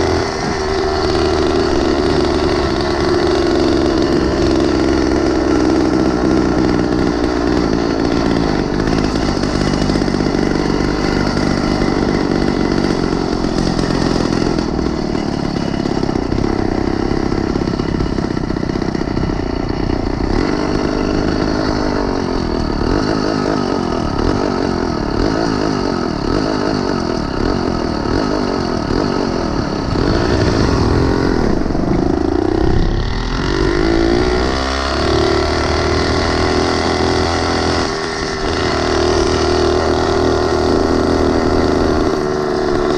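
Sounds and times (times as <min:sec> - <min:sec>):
small bicycle engine running: 0:00.0 - 0:42.9.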